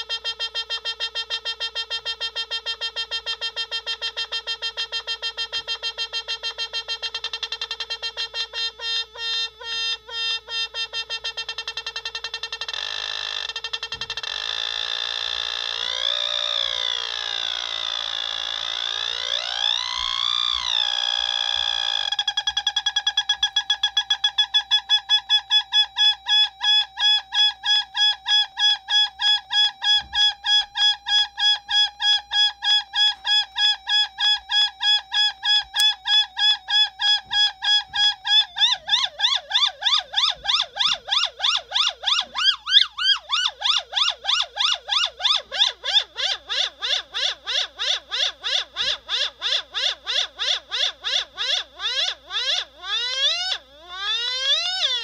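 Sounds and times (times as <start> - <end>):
analog synthesizer tone: 4.1 - 55.0.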